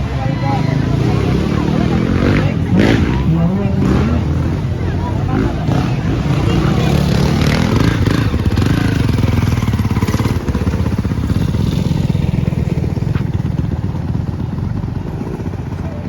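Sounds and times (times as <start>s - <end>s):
dirt bike engine running: 0.7s - 16.0s.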